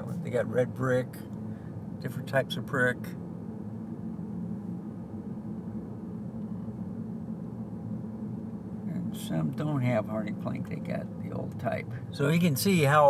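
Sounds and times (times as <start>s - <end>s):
car driving hum: 0.0s - 13.0s.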